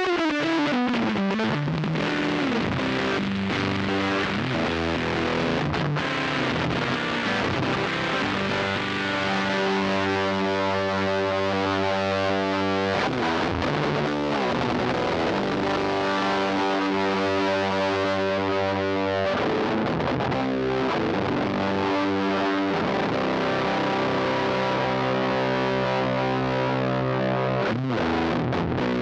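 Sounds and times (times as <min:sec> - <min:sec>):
electric guitar chords: 0:00.0 - 0:29.0.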